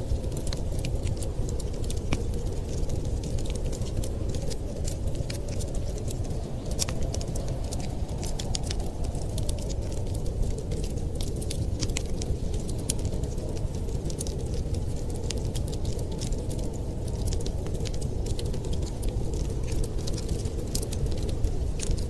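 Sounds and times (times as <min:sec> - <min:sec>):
low rumble of fire: 0:00.0 - 0:22.0
wood fire crackling: 0:00.0 - 0:22.0.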